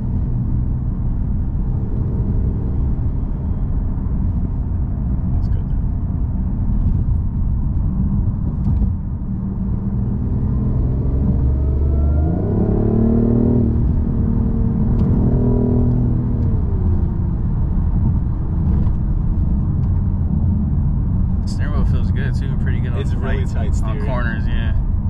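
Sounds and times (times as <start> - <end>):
car engine cabin rumble: 0.0 - 10.1, 13.5 - 25.0
car engine accelerating: 0.0 - 25.0.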